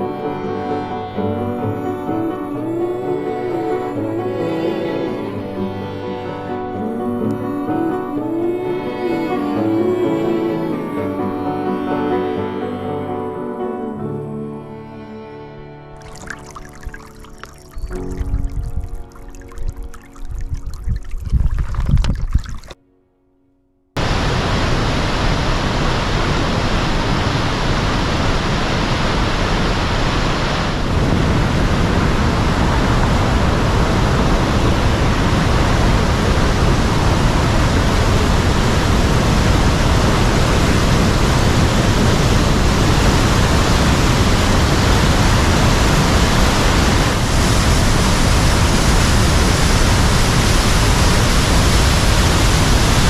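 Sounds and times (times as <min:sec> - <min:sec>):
waterfall rushing: 0:00.0 - 0:13.6, 0:16.0 - 0:20.5, 0:24.0 - 0:53.0.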